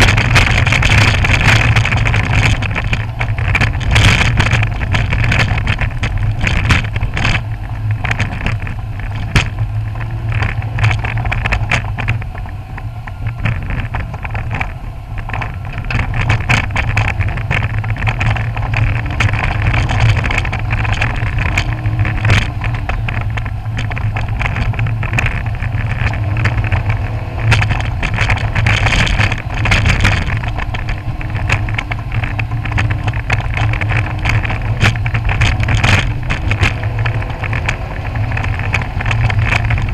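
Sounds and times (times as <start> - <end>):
car engine running: 0.0 - 39.9
clunks and rattles over bumps: 0.0 - 39.9
road and tyre noise: 0.0 - 39.9.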